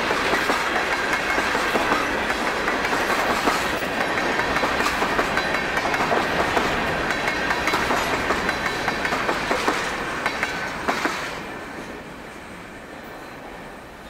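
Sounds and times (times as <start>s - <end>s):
train wheels clacking over rail joints: 0.0s - 11.5s.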